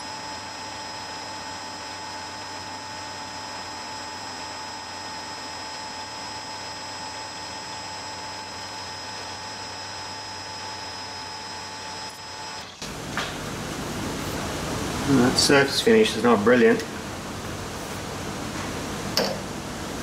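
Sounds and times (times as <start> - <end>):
high whine: 0.0 - 20.0.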